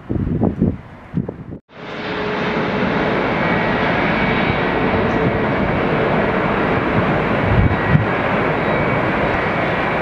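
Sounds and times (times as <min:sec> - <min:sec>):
jet engines running: 0:01.7 - 0:10.0.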